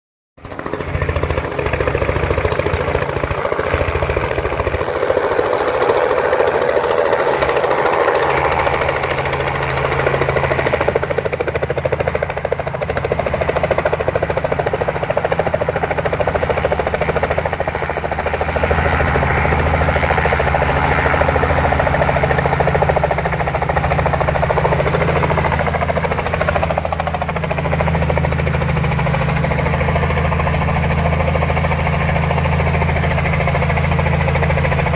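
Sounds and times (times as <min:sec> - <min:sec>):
helicopter rotor beating: 0:00.4 - 0:34.9.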